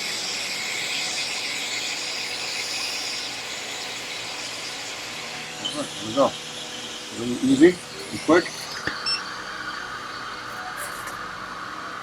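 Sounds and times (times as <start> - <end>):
hot air nozzle hissing: 0.0 - 11.3.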